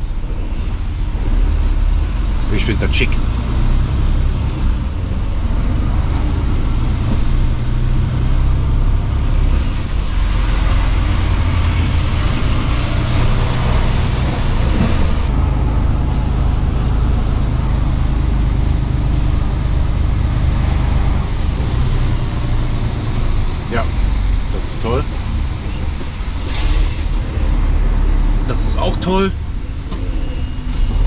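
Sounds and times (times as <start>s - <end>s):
road noise inside cab: 0.0s - 31.0s
truck diesel engine running: 0.0s - 31.0s.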